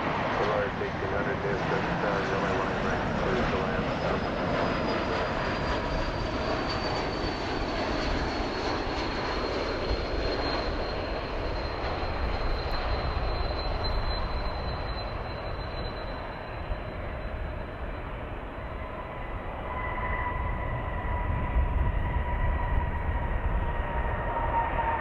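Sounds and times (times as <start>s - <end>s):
jet engines running with high whine: 0.0s - 25.0s.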